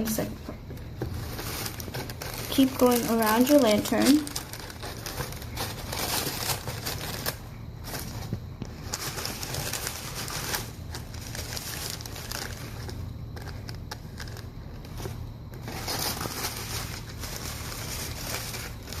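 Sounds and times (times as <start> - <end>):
tissue paper rustling: 0.0 - 19.0.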